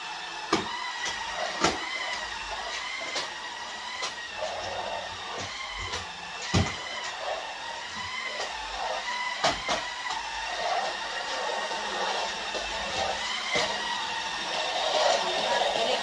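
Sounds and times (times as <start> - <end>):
stick vacuum cleaner motor whine: 0.0 - 16.0.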